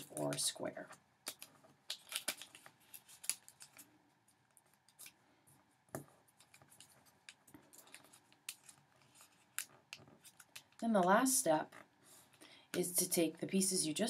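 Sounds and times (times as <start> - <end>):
paper folding crackles: 0.0 - 12.4.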